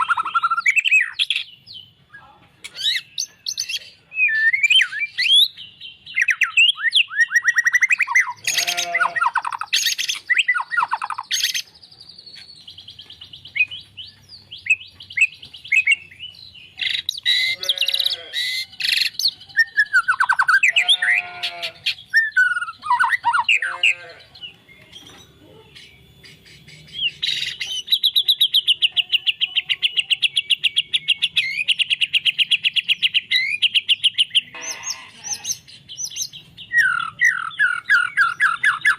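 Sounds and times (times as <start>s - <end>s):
songbird singing whistled phrases: 0.0s - 17.7s, 18.4s - 20.9s, 21.9s - 34.5s, 35.9s - 38.9s.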